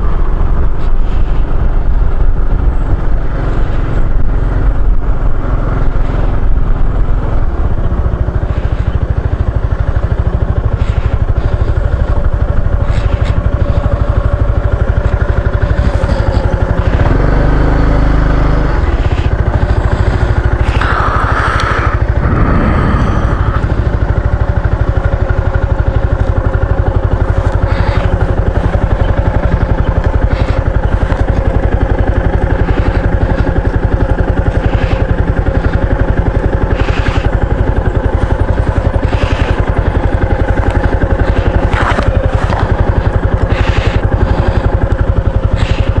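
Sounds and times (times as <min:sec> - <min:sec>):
scooter engine drone: 0:00.0 - 0:46.0.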